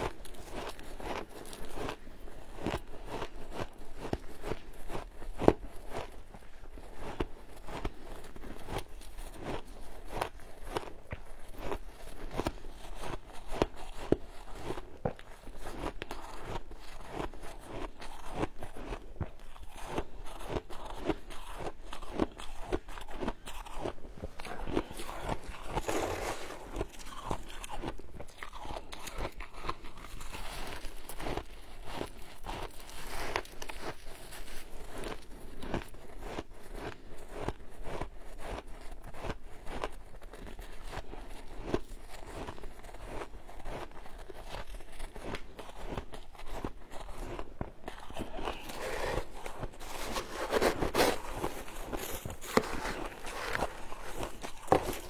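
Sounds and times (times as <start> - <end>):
person crunching shaved ice: 0.0 - 55.0.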